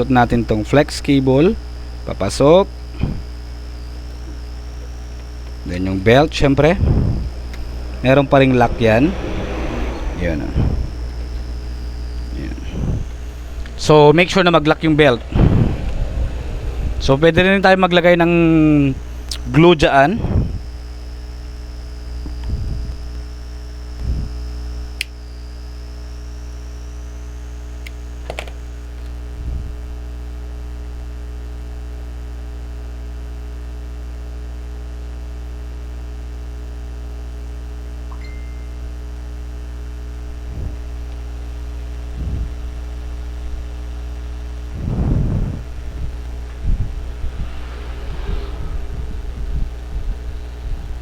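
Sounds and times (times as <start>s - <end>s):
faint high whine: 0.0s - 30.1s, 37.8s - 51.0s
low electrical hum: 0.0s - 51.0s.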